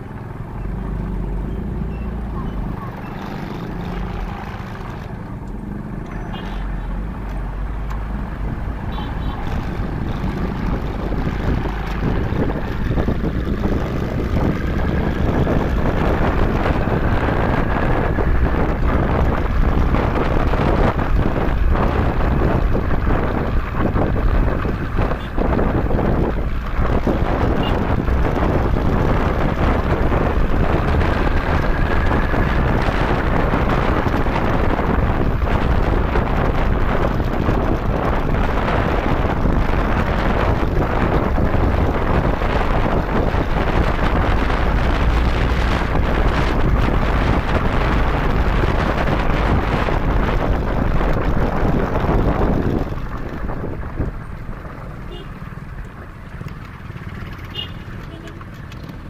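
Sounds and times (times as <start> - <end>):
motorcycle engine and road noise: 0.0 - 59.0
wind buffeting microphone: 7.2 - 57.6.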